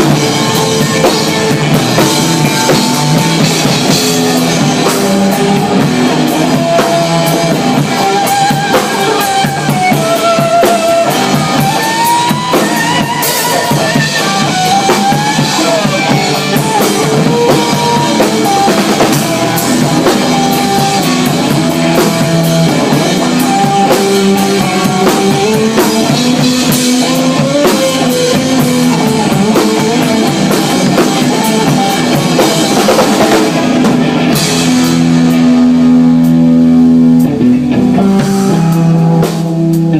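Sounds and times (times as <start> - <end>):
bass and guitar: 0.0 - 39.9
drum kit and cymbals: 0.0 - 39.9
wavering lead melody: 0.0 - 39.9.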